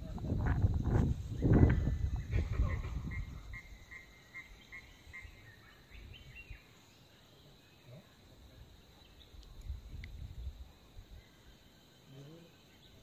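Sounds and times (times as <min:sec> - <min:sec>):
faint scattered calls: 0:00.4 - 0:09.6, 0:10.6 - 0:13.0.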